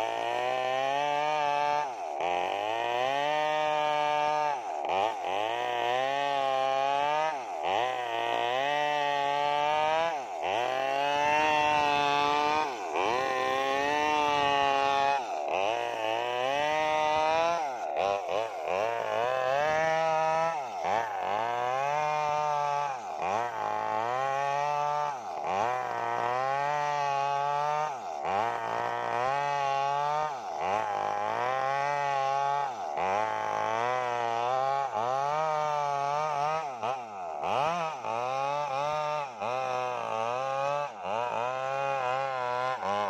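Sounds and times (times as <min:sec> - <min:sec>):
chainsaw cutting log: 0:00.0 - 0:43.0.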